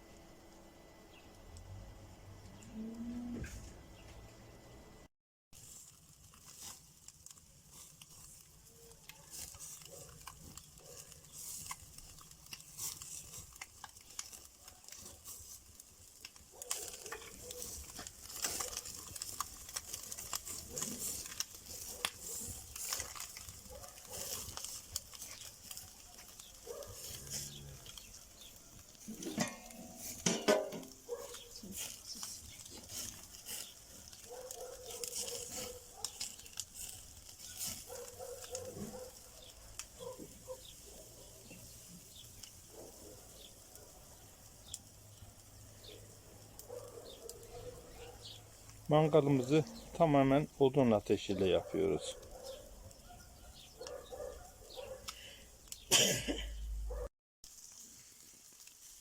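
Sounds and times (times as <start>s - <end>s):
wood fire crackling: 5.6s - 59.0s.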